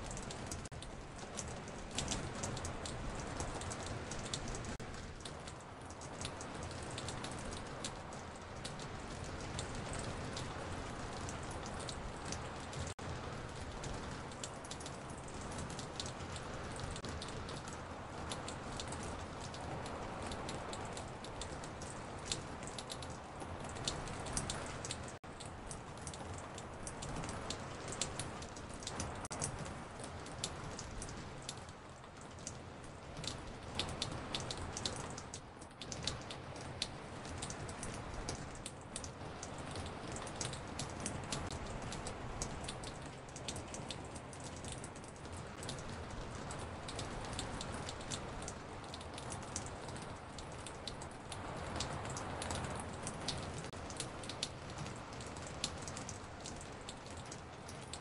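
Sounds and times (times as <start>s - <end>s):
raindrops ticking: 0.0s - 58.0s
steady hiss of rain: 0.0s - 58.0s.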